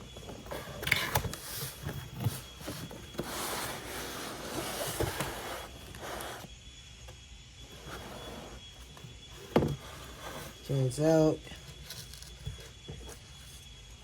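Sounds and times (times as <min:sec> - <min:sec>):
cardboard and packaging scraping: 0:00.0 - 0:06.5, 0:07.7 - 0:13.6.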